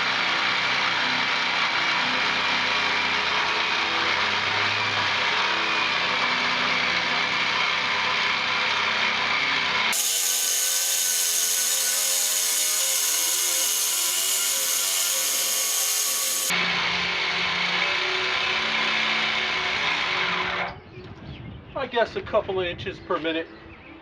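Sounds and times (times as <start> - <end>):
jigsaw cutting through steel: 0.0 - 20.7.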